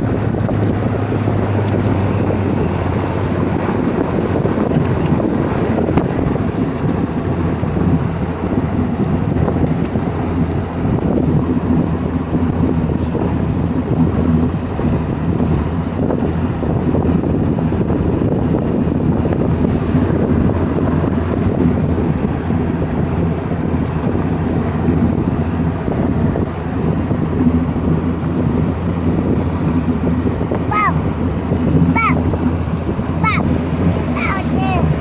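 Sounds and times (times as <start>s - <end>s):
low motor drone: 0.0s - 35.0s
wind buffeting microphone: 0.0s - 35.0s.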